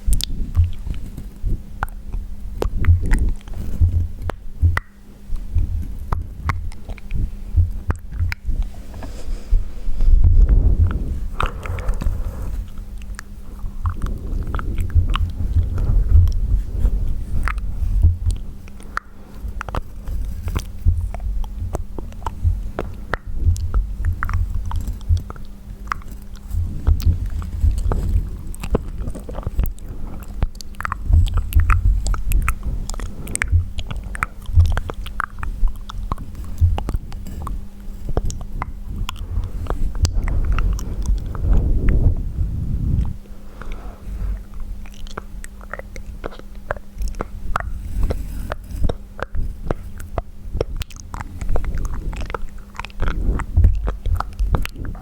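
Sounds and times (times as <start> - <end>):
wet mouth sounds: 0.0 - 55.0
low rumble: 5.4 - 55.0.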